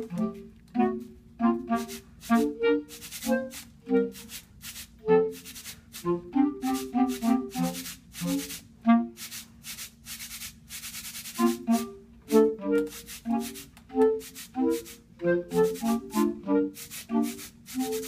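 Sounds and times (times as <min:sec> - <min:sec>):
clarinet quartet playing: 0:00.0 - 0:09.2, 0:11.4 - 0:18.0
hissing air noise: 0:01.6 - 0:18.0.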